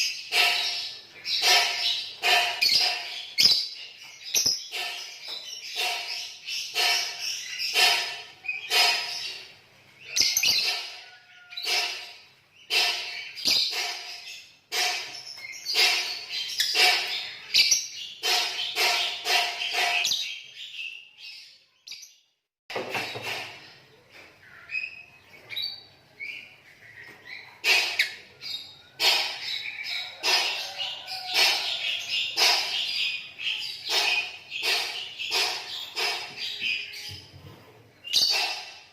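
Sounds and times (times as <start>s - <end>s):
lovebirds chirping and twittering: 0.0s - 38.9s.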